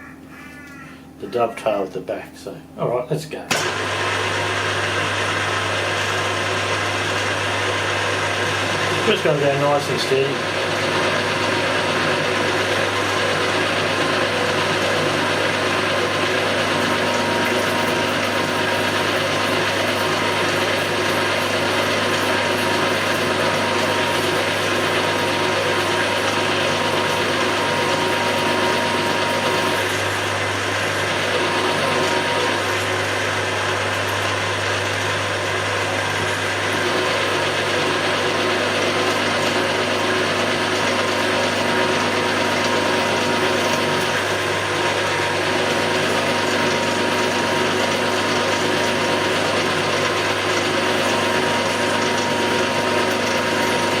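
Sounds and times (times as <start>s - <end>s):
milling machine drilling with gear whine: 3.5s - 54.0s.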